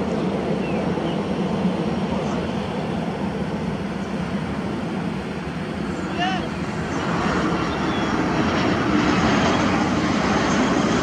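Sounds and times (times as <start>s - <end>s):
jet engines droning: 0.0s - 11.0s.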